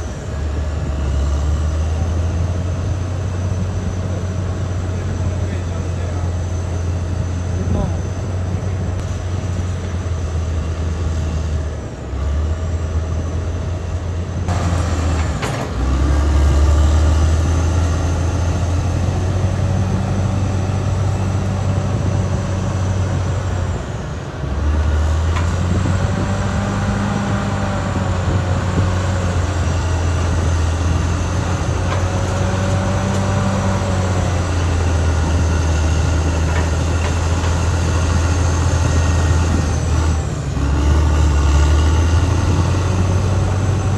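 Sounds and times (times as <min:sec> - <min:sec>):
bulldozer diesel engine: 0:00.0 - 0:43.9
tracks clanking: 0:00.0 - 0:43.9.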